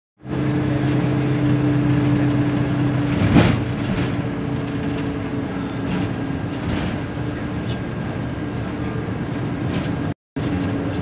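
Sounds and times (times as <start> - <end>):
bus engine and road noise: 0.2 - 11.0.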